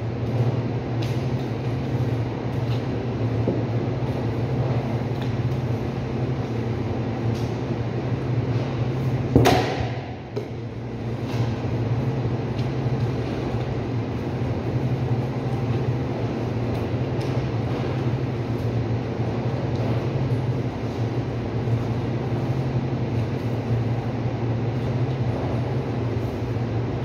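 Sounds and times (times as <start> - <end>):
refrigeration machinery hum: 0.0 - 27.0.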